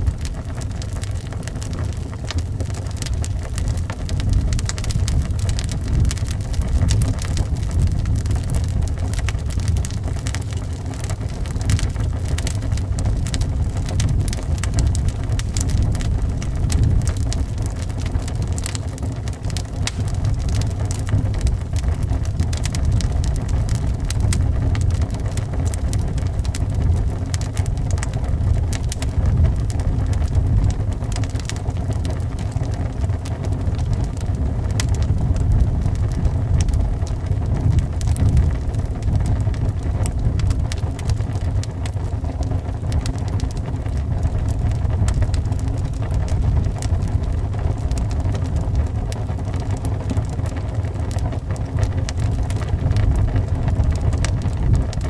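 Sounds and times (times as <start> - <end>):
loud low wind rumble: 0.0 - 55.0
wood fire crackling: 0.0 - 55.0.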